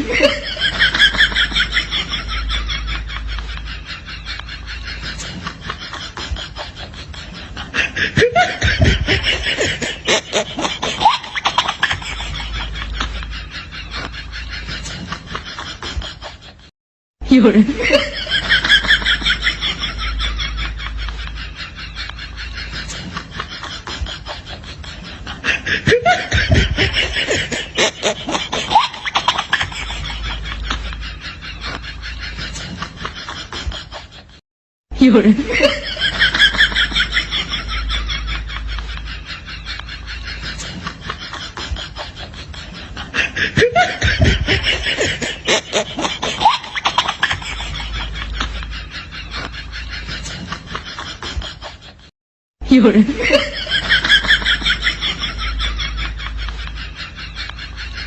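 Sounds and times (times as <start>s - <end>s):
person laughing: 0.0s - 34.4s, 35.0s - 58.0s.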